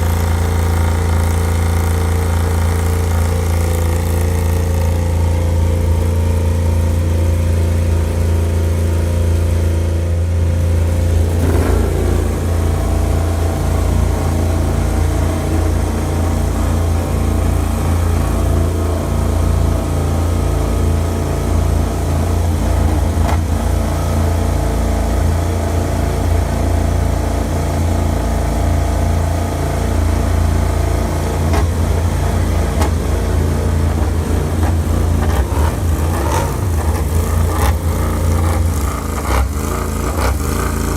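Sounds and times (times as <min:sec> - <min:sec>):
motorcycle engine fast idle: 0:00.0 - 0:28.1, 0:29.0 - 0:40.9.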